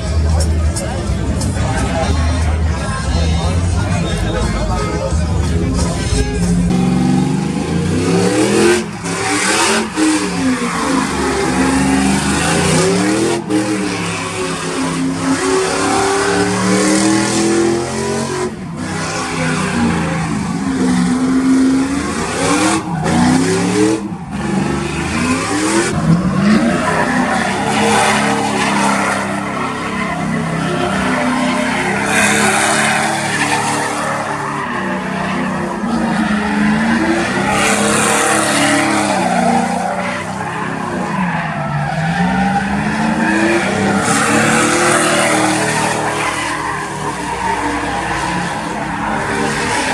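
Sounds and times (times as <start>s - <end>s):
truck engines revving: 0.0s - 49.9s.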